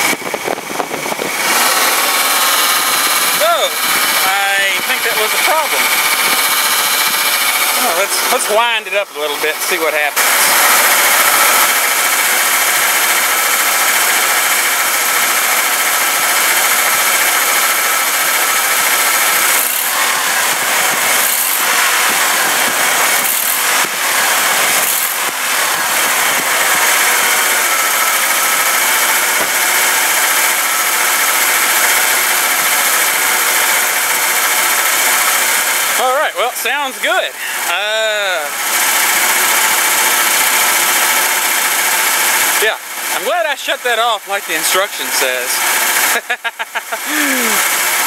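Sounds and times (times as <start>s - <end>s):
truck engine revving: 0.0s - 48.0s.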